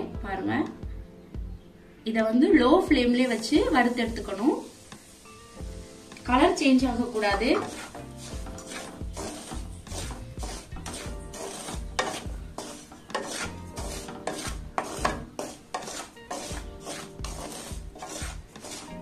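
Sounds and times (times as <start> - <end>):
wooden spatula scraping semolina: 3.0 - 19.0.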